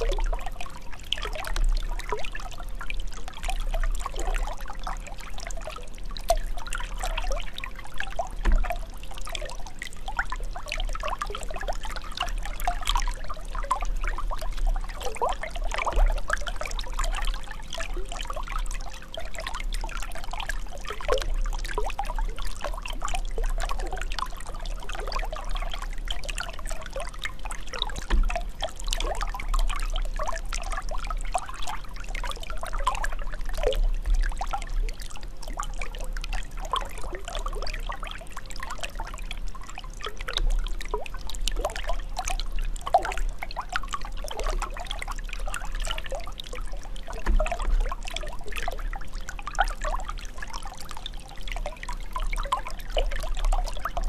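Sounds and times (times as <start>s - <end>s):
stream splashing and bubbling: 0.0s - 54.0s.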